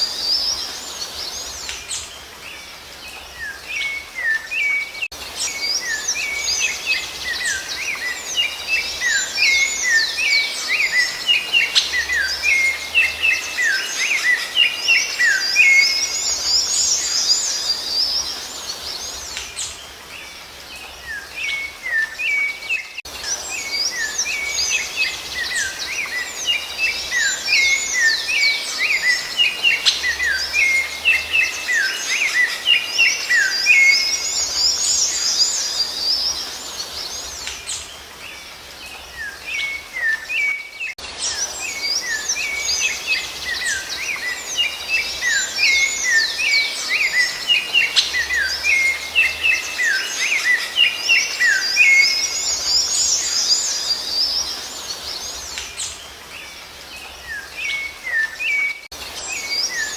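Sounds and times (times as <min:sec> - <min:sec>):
songbirds chirping and whistling: 0:00.0 - 0:59.9.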